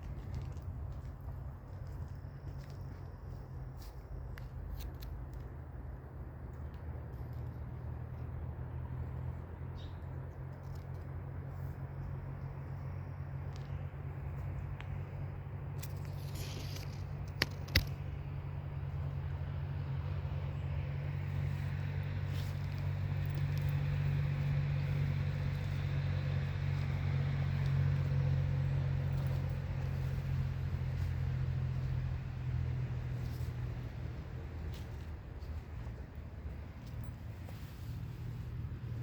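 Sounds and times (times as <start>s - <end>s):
vehicle engine humming: 0.0s - 39.0s.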